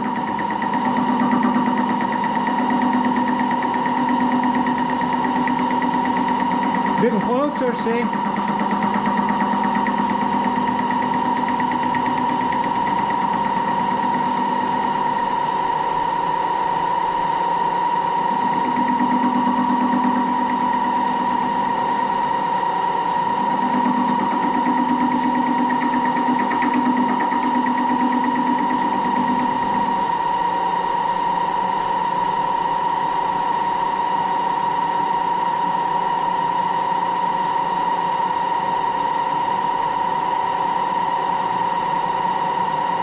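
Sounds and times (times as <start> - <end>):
boring machine high whine: 0.0 - 43.0
low machine hum: 0.0 - 43.0.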